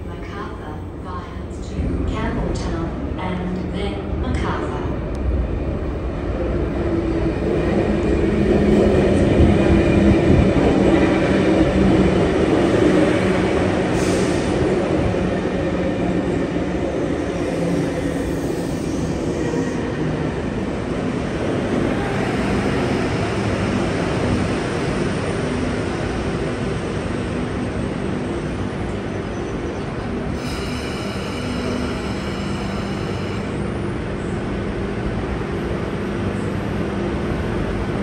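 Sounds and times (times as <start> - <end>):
electric train passing: 4.9 - 38.0.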